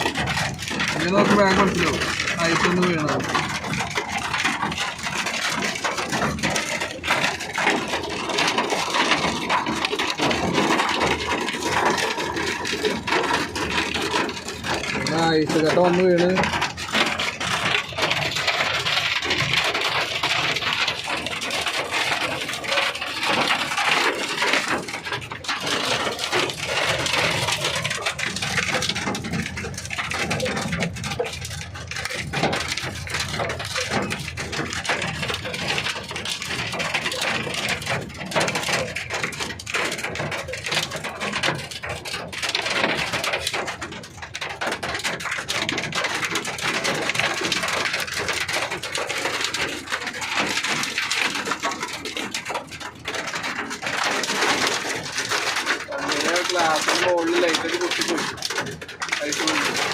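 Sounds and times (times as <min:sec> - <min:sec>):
hailstones pelting hard surfaces: 0:00.0 - 0:59.9
rain: 0:00.0 - 0:59.9.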